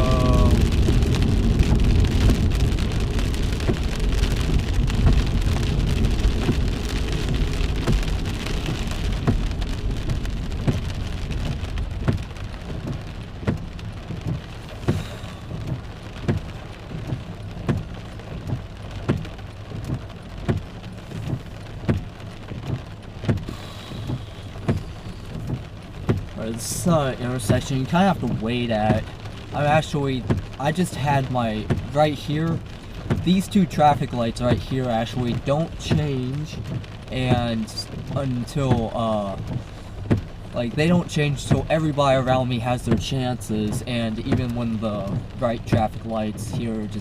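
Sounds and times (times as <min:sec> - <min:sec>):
heavy rain drumming on a car: 0:00.0 - 0:47.0
road and tyre noise: 0:00.0 - 0:47.0
regular ticking: 0:04.8 - 0:47.0.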